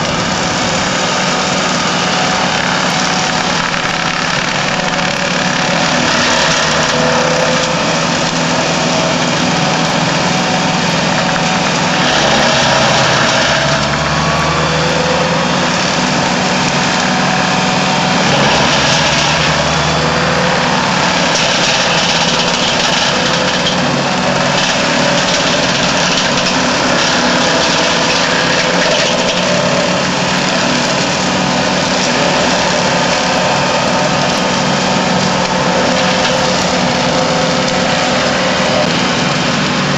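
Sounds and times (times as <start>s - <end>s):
mulcher shredding branches: 0.0s - 39.9s
tractor engine running: 0.0s - 39.9s.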